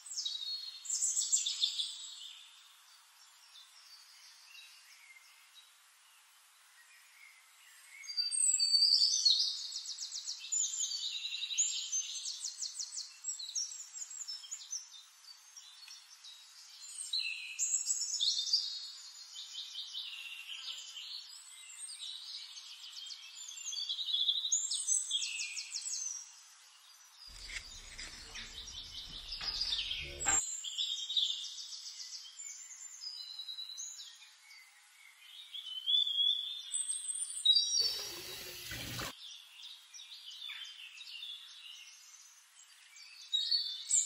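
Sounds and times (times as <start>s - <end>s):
birds singing: 8.0s - 44.0s.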